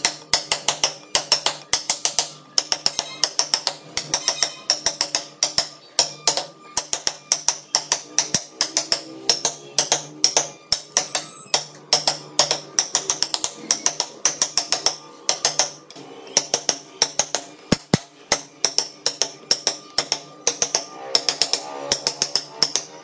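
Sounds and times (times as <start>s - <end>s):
mallet tapping gouge: 0.0s - 23.0s.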